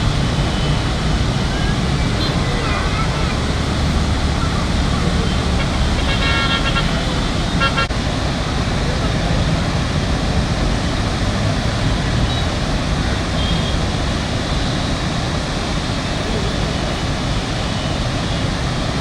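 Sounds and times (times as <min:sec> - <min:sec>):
roar of rushing floodwater: 0:00.0 - 0:19.0.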